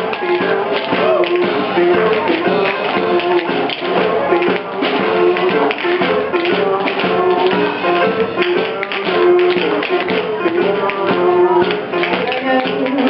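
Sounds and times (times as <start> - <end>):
live music: 0.0 - 13.0
tap-dance taps: 0.1 - 13.0.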